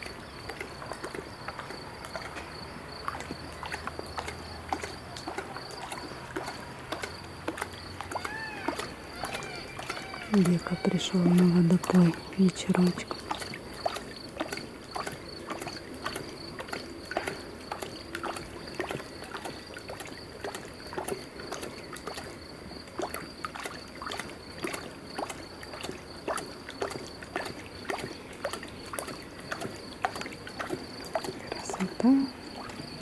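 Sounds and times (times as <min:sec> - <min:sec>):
lion lapping water: 0:00.0 - 0:33.0.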